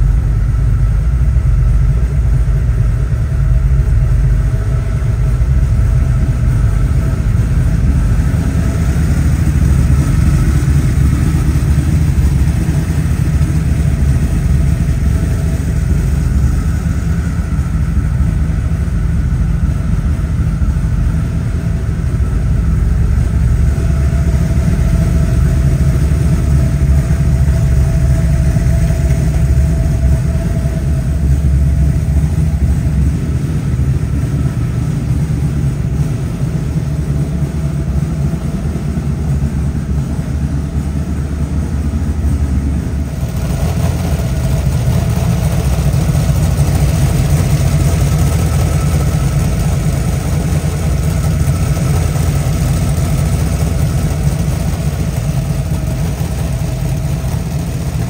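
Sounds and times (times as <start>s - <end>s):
vee eight engine idling: 0.0s - 58.0s.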